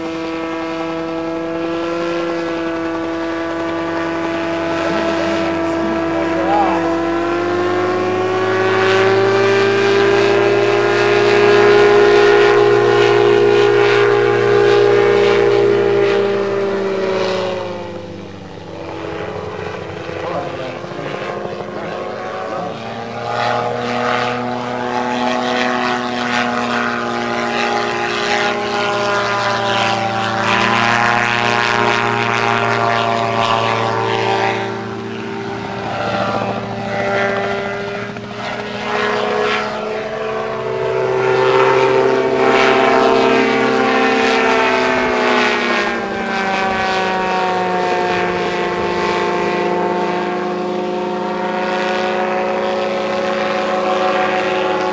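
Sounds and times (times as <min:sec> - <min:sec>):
gyroplane engine and propeller drone: 0:00.0 - 0:54.9.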